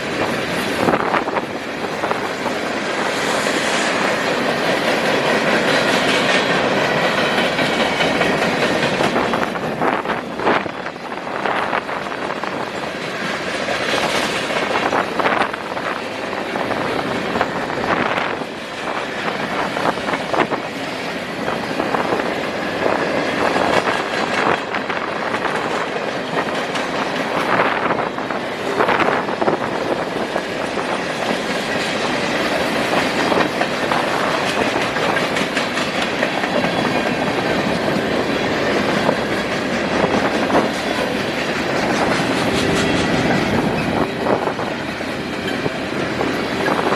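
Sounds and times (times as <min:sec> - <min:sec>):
train wheels clicking over rail joints: 0:00.0 - 0:46.9.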